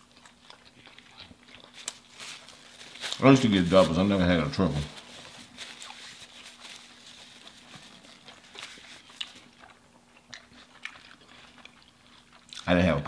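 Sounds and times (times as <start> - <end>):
burger being chewed: 0.0 - 12.8
faint steady hum: 0.0 - 13.0.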